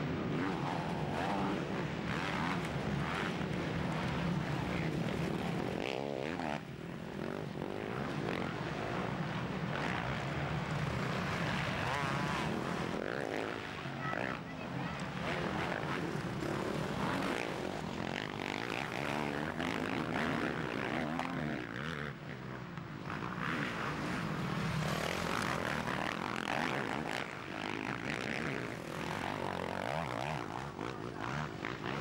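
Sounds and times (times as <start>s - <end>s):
motocross bikes revving: 0.0s - 32.0s.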